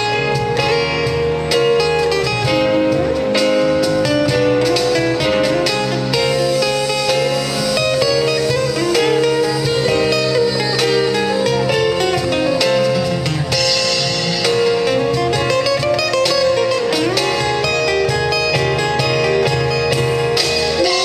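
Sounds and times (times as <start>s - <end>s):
guitar: 0.0s - 21.0s
live band playing pop ballad: 0.0s - 21.0s.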